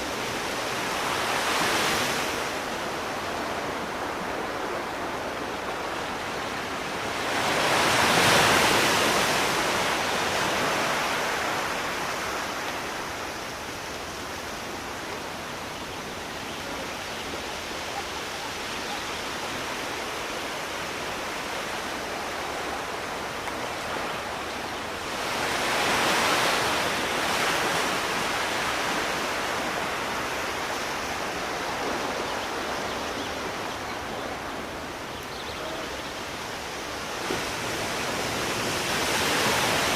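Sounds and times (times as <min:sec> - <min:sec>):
sea waves breaking on shore: 0:00.0 - 0:39.9
steady surf hiss: 0:00.0 - 0:39.9.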